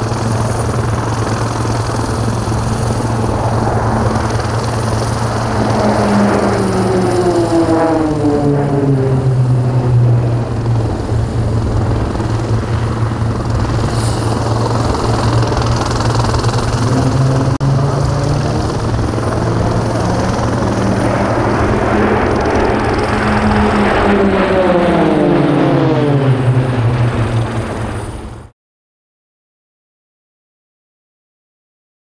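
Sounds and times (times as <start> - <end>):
propeller aircraft drone: 0.0 - 28.5.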